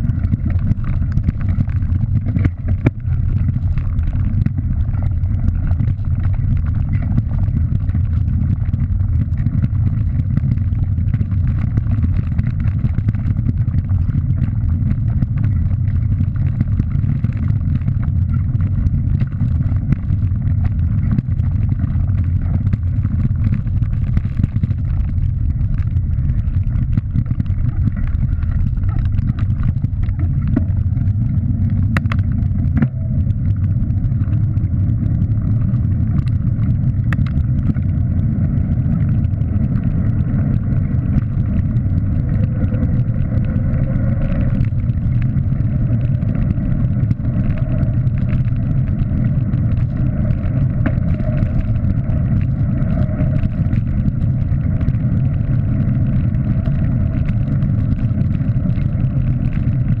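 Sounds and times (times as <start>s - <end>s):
road rumble: 0.0s - 60.0s.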